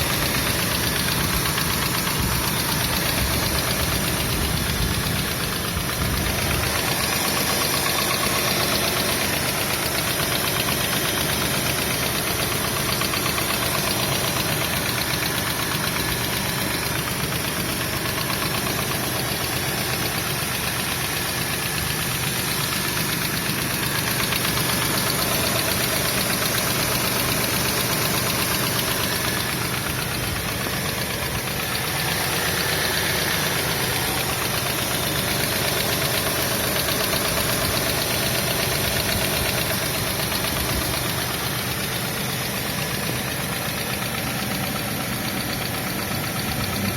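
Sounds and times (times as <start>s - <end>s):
engine running with rapid knocking: 0.0s - 46.9s.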